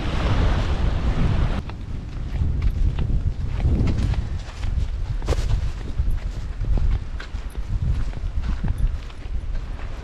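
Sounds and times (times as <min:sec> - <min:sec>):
wind rumbling on microphone: 0:00.0 - 0:10.0
footsteps walking: 0:01.6 - 0:10.0.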